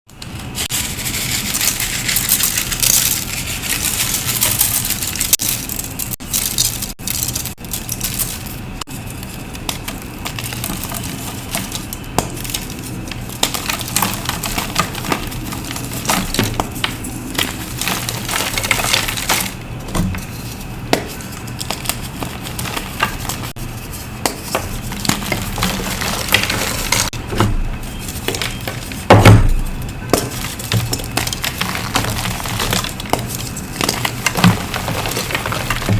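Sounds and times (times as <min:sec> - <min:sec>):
chalk being crushed: 0:00.2 - 0:27.2, 0:27.8 - 0:35.9.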